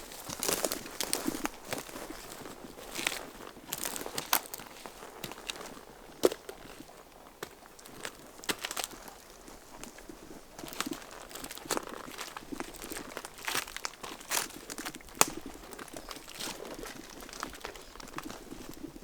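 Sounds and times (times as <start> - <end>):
bags rustling and crinkling: 0.0 - 7.3, 7.9 - 19.0.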